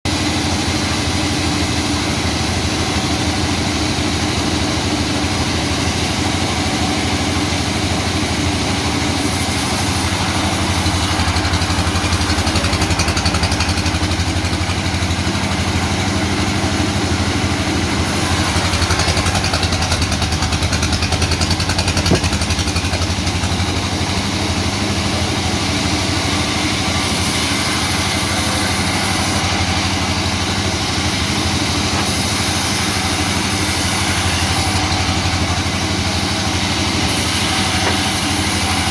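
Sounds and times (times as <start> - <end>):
sawmill machinery engine drone: 0.1 - 38.9
bright sawing hiss: 3.5 - 38.9.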